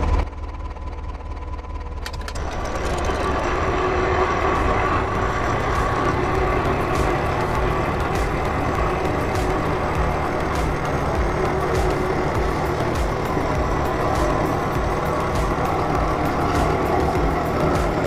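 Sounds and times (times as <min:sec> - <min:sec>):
machine running: 0:00.0 - 0:18.0.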